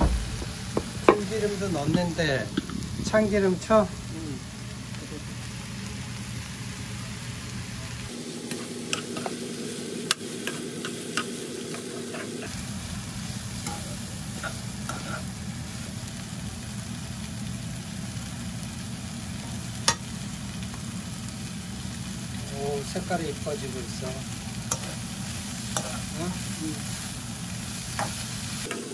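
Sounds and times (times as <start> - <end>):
root sizzling in oil: 0.0 - 28.9.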